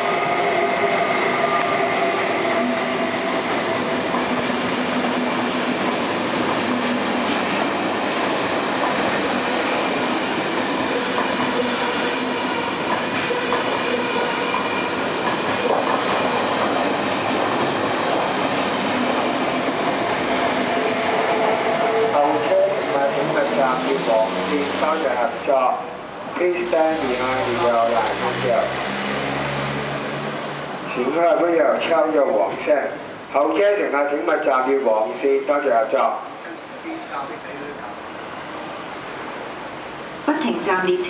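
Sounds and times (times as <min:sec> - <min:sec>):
wheels rushing on rail: 0:00.0 - 0:33.4.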